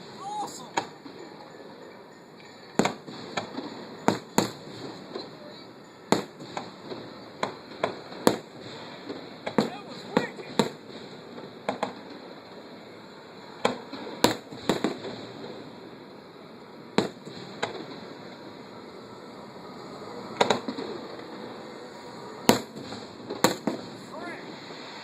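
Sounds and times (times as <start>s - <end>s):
background hiss: 0.0s - 25.0s
fireworks bangs: 0.0s - 25.0s.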